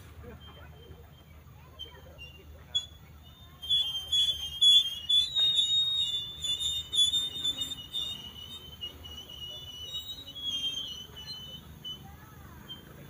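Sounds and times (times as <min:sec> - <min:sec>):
train wheels squealing: 0:00.0 - 0:13.0.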